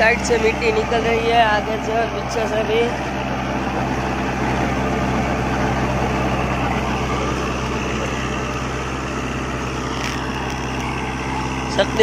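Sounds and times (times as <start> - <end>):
diesel tractor engine running: 0.0 - 12.0
rotavator blades churning soil: 0.0 - 12.0.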